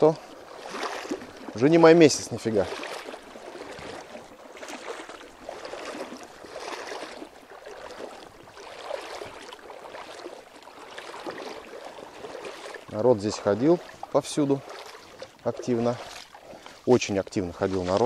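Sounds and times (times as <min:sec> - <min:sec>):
wading through shallow water: 0:00.0 - 0:18.0.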